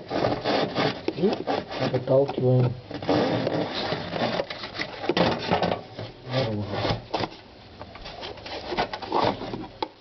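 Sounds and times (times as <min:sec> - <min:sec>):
plastic part scraping and clicking: 0:00.0 - 0:10.0.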